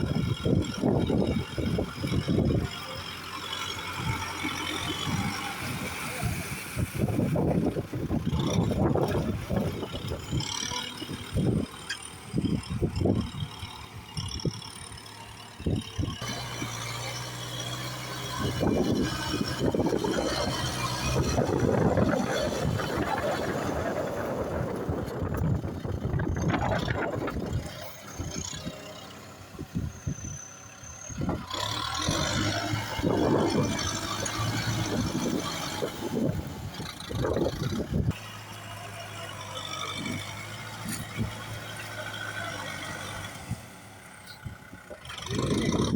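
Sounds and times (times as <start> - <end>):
tractor engine under load: 0.0 - 45.9.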